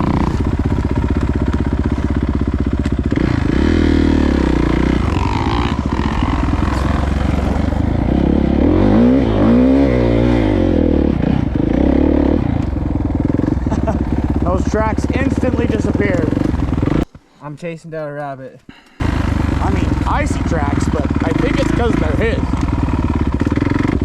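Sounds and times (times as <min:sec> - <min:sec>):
dirt bike engine revving: 0:00.0 - 0:17.1, 0:19.0 - 0:24.0.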